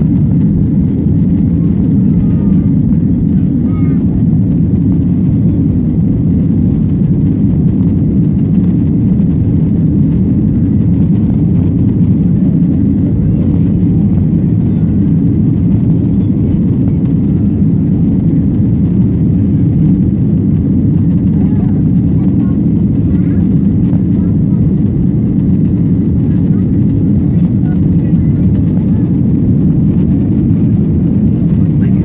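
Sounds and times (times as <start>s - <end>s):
jet engine rumble in cabin: 0.0s - 32.0s.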